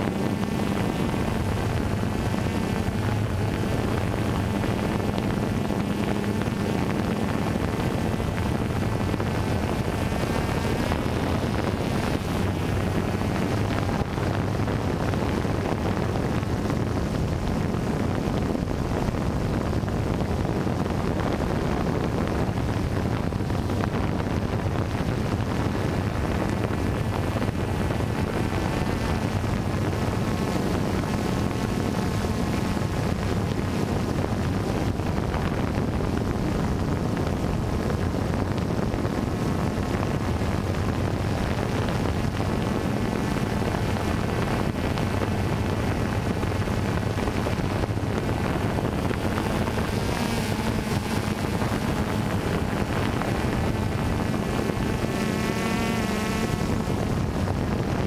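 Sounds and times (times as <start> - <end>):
drone propellers buzzing: 0.0 - 58.0
wind rushing over microphone: 0.0 - 58.0.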